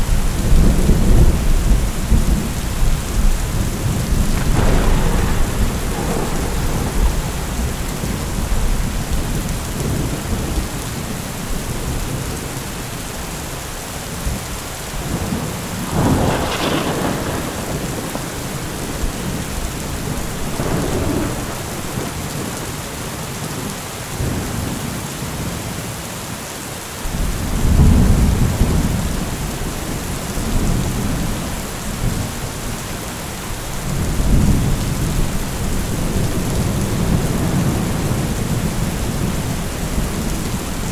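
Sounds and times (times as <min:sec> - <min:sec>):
thunder rumbling: 0:00.0 - 0:13.4, 0:14.1 - 0:22.8, 0:27.1 - 0:40.9
heavy rain: 0:00.0 - 0:40.9.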